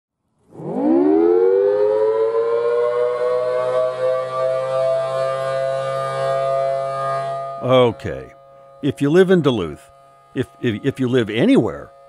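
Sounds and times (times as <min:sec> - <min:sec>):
warning siren winding up: 0:00.4 - 0:12.0.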